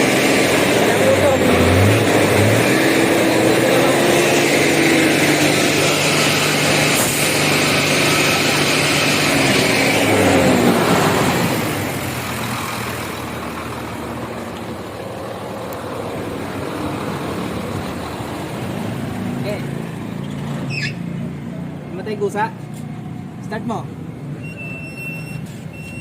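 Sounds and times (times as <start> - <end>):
diesel truck engine revving: 0.0 - 22.1.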